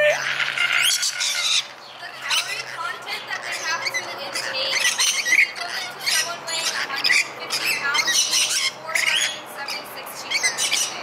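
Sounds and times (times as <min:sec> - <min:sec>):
parrots screeching: 0:00.0 - 0:11.0.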